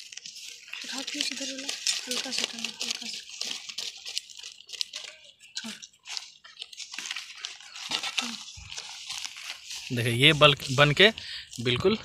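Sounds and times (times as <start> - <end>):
leaves crinkling and crackling: 0.0 - 12.0.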